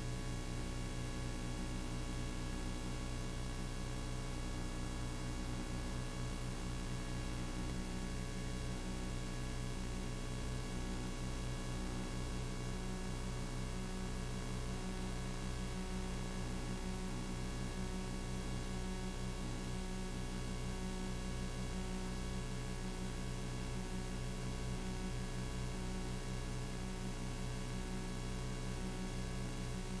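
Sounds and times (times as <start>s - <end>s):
electrical hum with hiss: 0.0s - 30.0s.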